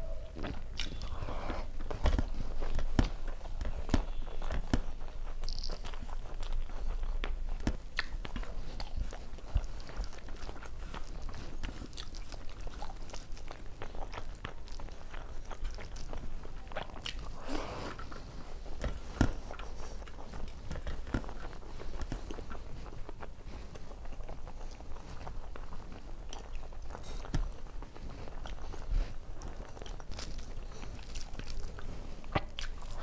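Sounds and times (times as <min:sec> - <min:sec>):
close chewing with mouth clicks: 0:00.0 - 0:33.0.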